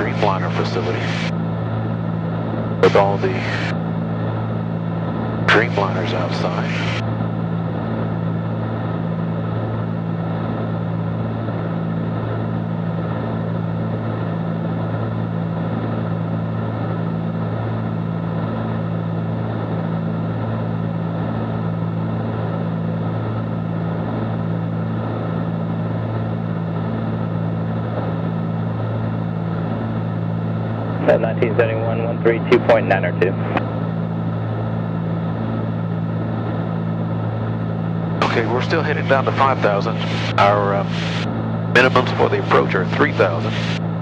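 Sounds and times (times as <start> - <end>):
aircraft engines droning in cabin: 0.0 - 44.0.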